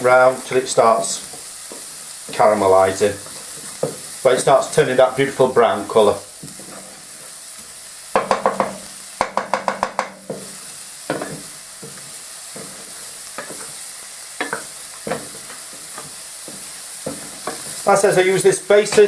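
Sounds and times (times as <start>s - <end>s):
onions sizzling in a frying pan: 0.0s - 19.0s.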